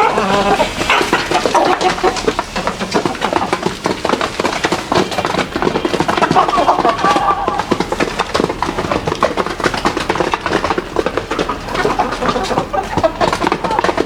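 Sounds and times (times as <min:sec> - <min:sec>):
chickens clucking: 0:00.0 - 0:14.0
rapid patter of clicks: 0:00.0 - 0:14.0.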